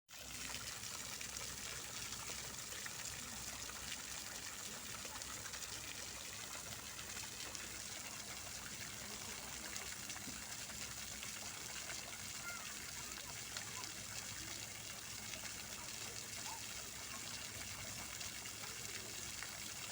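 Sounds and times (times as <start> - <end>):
fountain water splashing: 0.1 - 19.9.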